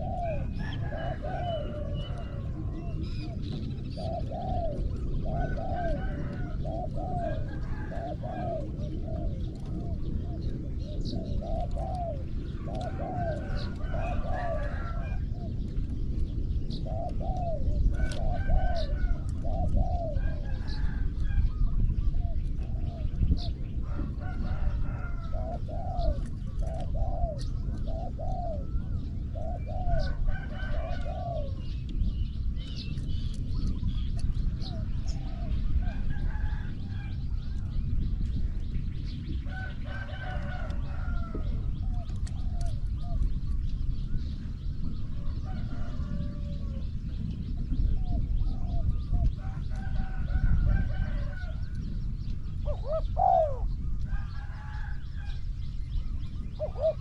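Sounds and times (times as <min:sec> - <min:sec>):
doves cooing: 0:00.0 - 0:55.4, 0:56.0 - 0:57.0
low rumble: 0:00.0 - 0:57.0.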